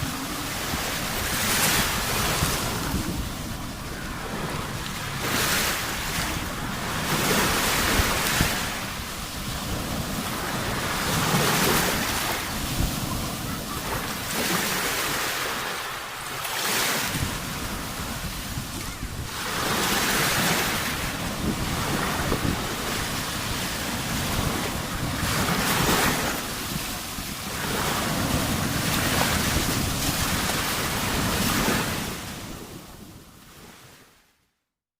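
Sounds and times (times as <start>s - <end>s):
wind on microphone: 0.0s - 15.7s, 16.6s - 33.7s
sea waves breaking ashore: 0.0s - 34.1s.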